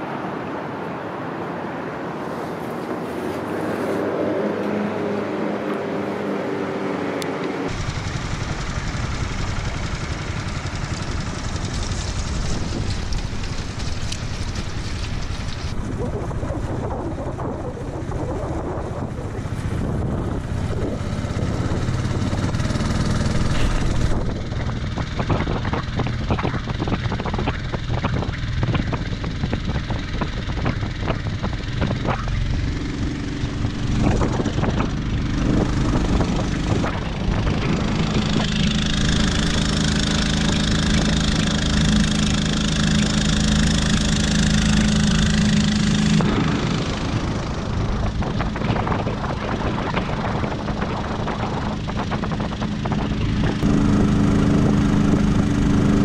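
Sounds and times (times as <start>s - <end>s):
small boat engine running: 7.1s - 56.0s.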